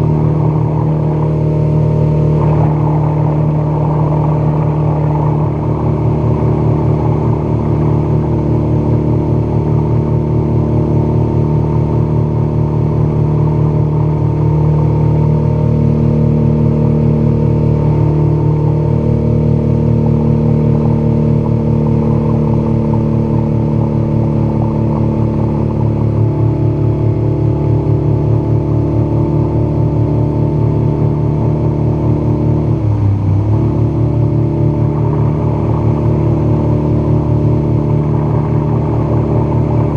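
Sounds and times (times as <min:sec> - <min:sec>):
outboard motor running: 0:00.0 - 0:39.9
water rushing past hull: 0:00.0 - 0:39.9.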